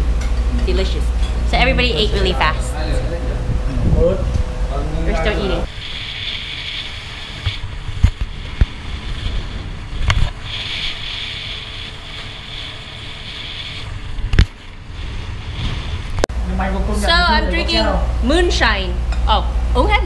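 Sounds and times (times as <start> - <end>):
low hum and hiss: 0.0 - 20.0.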